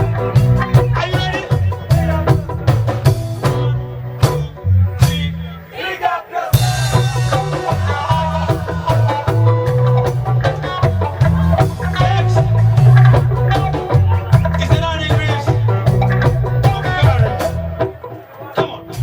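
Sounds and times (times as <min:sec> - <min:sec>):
heavy bass line: 0:00.0 - 0:05.7, 0:06.6 - 0:19.0
reggae band playing: 0:00.0 - 0:19.0.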